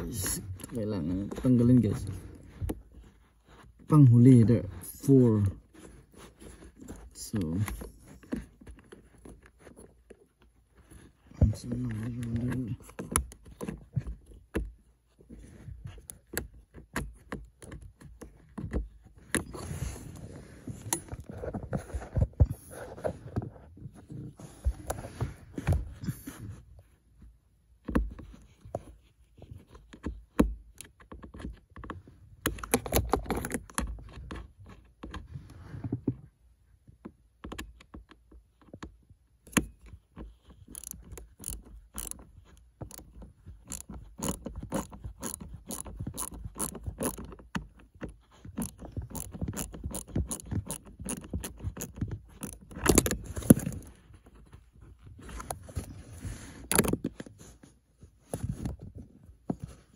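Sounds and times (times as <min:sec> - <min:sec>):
screwdriver clicking and scraping: 0:00.0 - 0:23.5, 0:27.8 - 0:35.2, 0:37.4 - 0:57.6
hand handling noise: 0:00.0 - 0:59.9.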